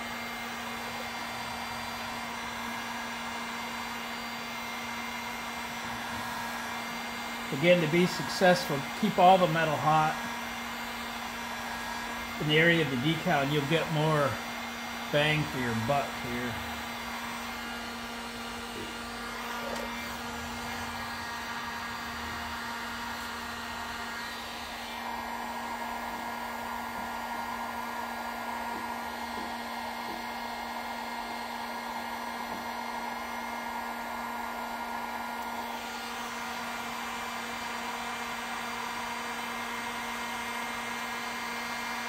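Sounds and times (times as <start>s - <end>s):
heat gun fan blowing: 0.0s - 42.0s.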